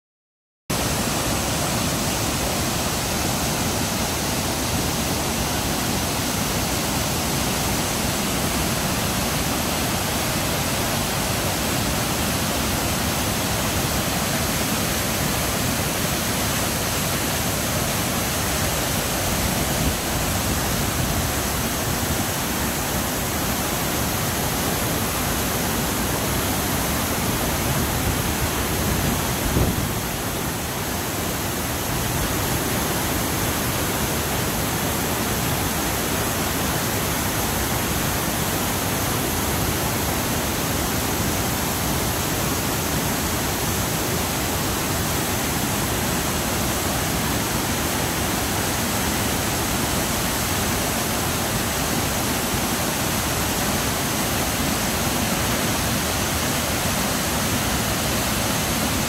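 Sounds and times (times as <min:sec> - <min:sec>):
waterfall rushing: 0:00.7 - 0:59.0.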